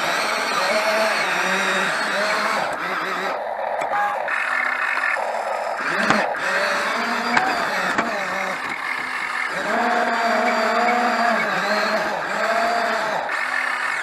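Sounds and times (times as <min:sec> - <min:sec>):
excavator motor whine: 0:00.0 - 0:14.0.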